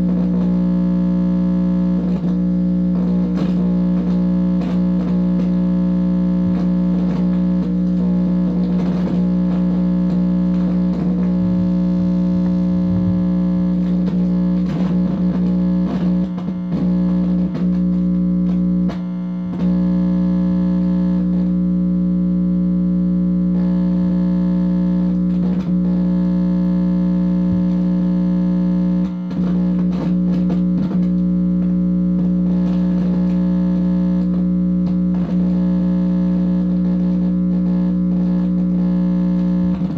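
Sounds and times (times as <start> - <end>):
distorted electrical hum: 0.0 - 39.9.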